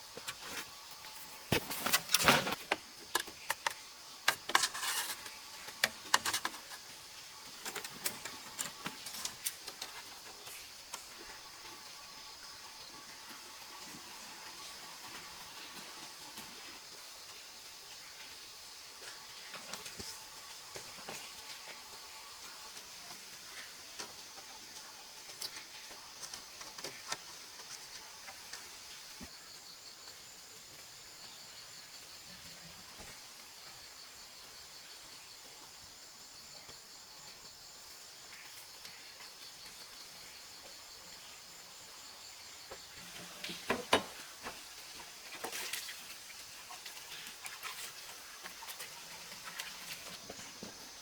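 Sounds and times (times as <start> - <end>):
insects chirring: 0.0 - 51.0.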